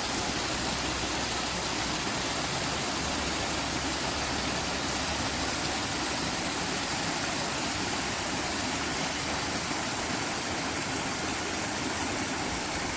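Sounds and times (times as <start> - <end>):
running water: 0.0 - 12.9.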